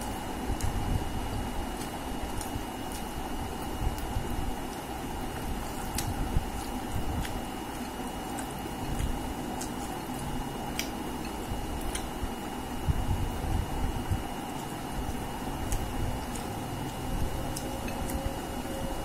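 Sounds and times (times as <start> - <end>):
faint high whine: 0.0 - 19.0
fingers squishing rice: 0.1 - 19.0.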